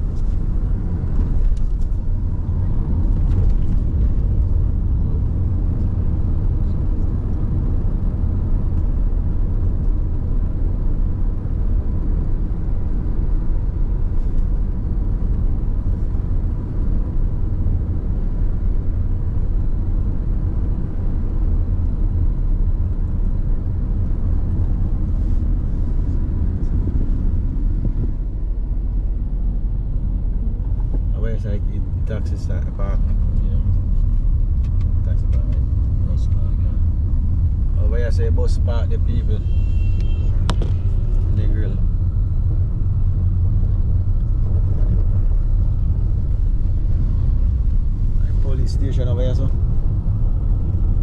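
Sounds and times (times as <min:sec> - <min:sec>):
car driving on road interior: 0:00.0 - 0:51.0.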